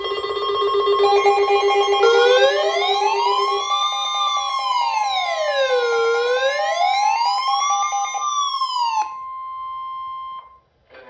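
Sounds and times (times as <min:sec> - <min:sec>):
electronic alert tones: 0:00.0 - 0:10.4
electronic siren wailing: 0:00.0 - 0:10.5.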